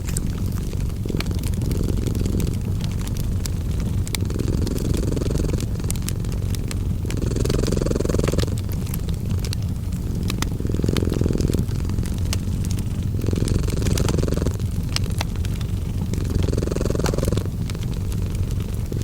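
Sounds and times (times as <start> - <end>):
cat purring: 0.0 - 19.0
wood fire crackling: 0.0 - 19.0.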